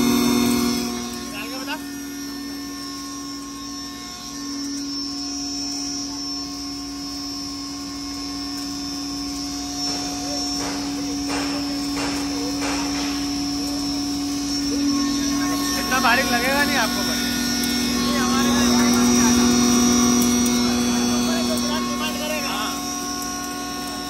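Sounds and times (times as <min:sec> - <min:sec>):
grinder and blower humming: 0:00.0 - 0:24.0.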